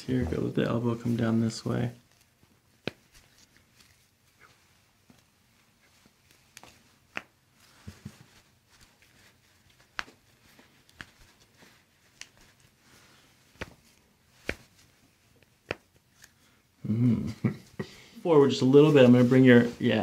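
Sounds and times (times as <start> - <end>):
skin and clothing rustling: 0.3 - 16.7, 18.4 - 20.0.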